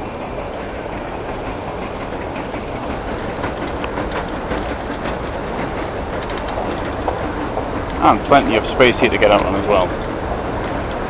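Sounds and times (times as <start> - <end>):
train rumbling: 0.0 - 11.0
wheels clicking over rails: 0.0 - 11.0.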